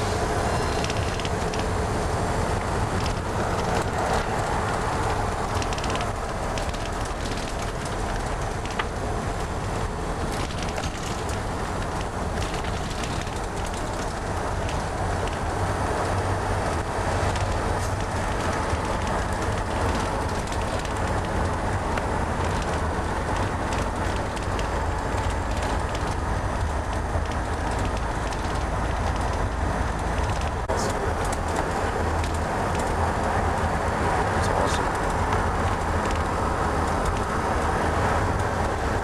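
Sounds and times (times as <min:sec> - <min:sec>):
bus engine and road rumble: 0:00.0 - 0:39.0
light clicks and rattles: 0:02.5 - 0:39.0.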